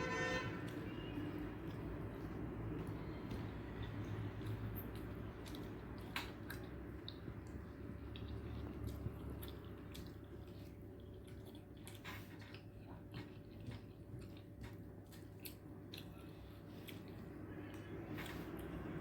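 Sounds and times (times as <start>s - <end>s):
chewing food: 0.3s - 19.0s.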